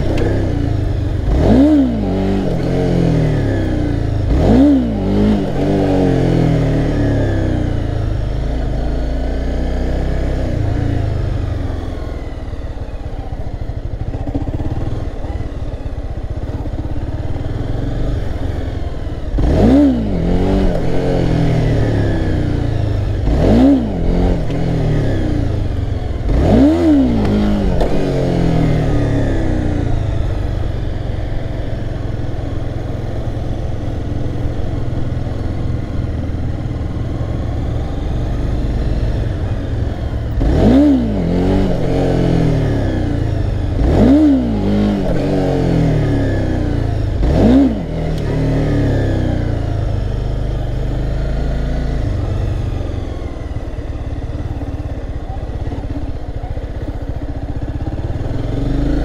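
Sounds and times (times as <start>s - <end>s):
motorcycle engine revving: 0.0s - 59.0s
motorcycle engine running: 0.0s - 59.0s.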